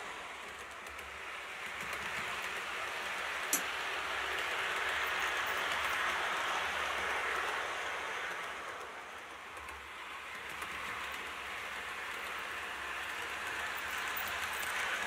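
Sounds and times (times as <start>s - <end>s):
model train wheels and motor rumbling: 0.0s - 15.0s.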